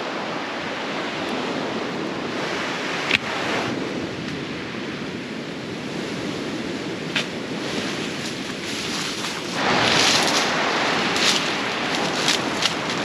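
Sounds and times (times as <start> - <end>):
ocean surf: 0.0 - 13.0
wind noise: 0.0 - 13.0.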